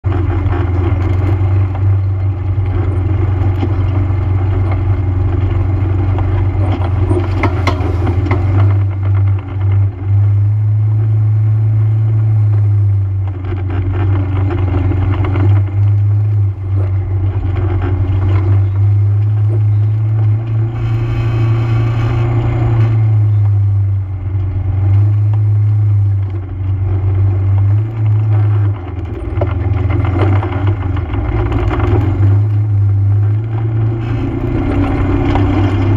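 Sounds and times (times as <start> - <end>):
atv engine droning: 0.0 - 35.9.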